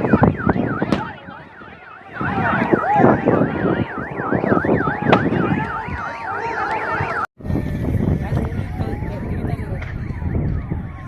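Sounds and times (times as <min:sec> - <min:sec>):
emergency siren warbling: 0:00.0 - 0:07.3, 0:07.9 - 0:11.0
voices and commotion: 0:00.0 - 0:11.0.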